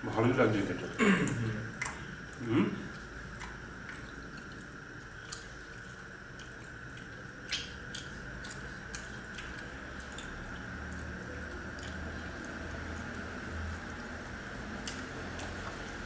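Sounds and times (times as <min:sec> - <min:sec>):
faint hum: 0:00.0 - 0:16.0
quiet chewing: 0:01.2 - 0:16.0.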